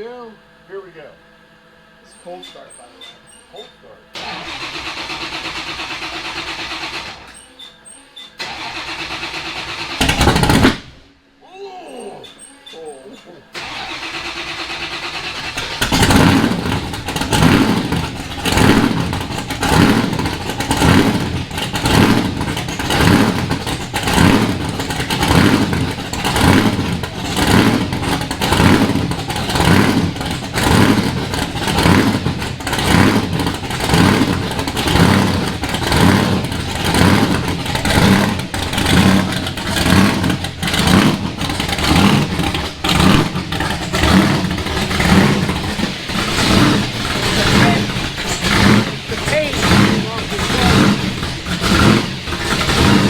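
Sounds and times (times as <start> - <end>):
car engine starting and running lumpy: 4.1 - 7.6, 8.4 - 11.1, 13.5 - 53.0.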